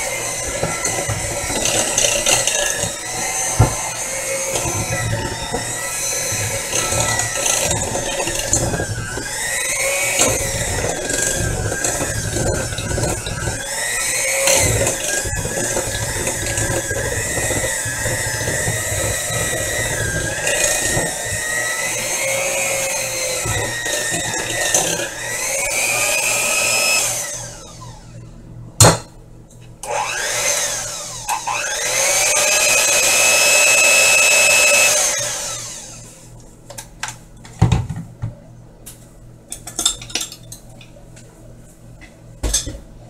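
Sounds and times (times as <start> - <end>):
electric mixer whining: 0.0 - 28.3, 29.8 - 36.4.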